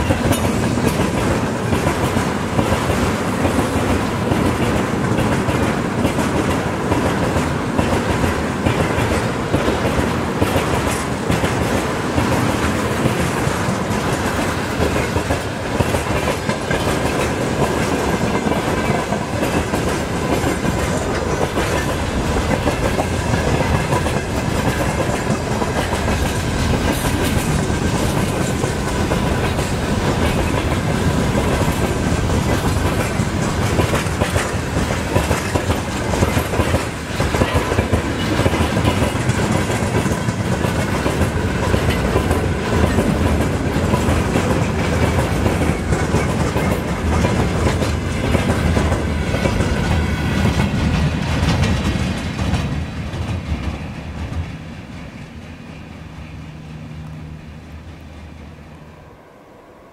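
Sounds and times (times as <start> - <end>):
train wheels clacking on rails: 0.0 - 58.2.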